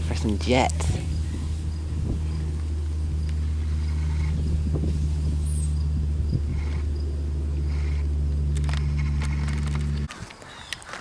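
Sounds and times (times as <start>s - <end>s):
low engine drone: 0.0s - 10.1s
faint insect chirps: 0.5s - 10.9s.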